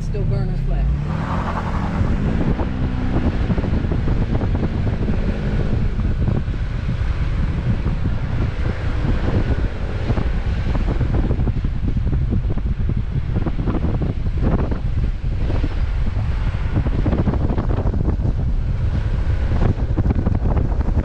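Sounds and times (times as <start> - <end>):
rumble of driving on dirt: 0.0 - 21.0
vehicle engine running: 0.0 - 21.0
wind buffeting microphone: 0.0 - 21.0.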